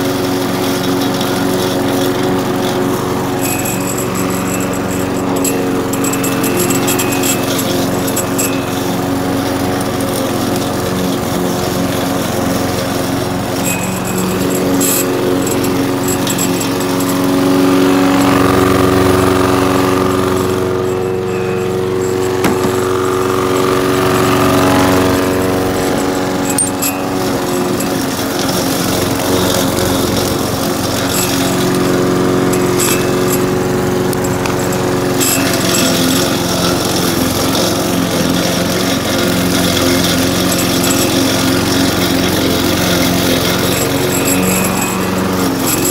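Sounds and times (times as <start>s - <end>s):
lawn mower engine cutting grass: 0.0s - 45.9s.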